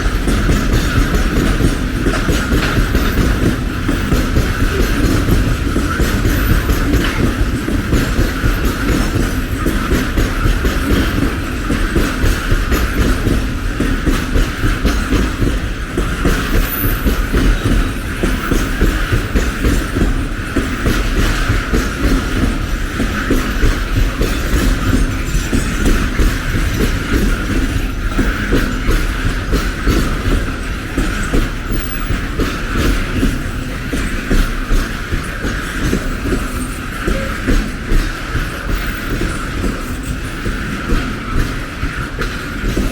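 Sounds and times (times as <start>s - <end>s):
train wheels clattering on rails: 0.0s - 42.9s.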